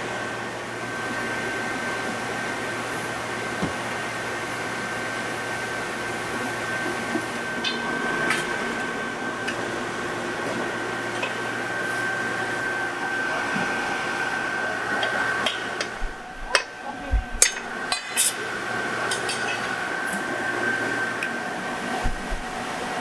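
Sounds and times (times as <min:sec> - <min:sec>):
factory machinery with high tone: 0:00.0 - 0:23.0.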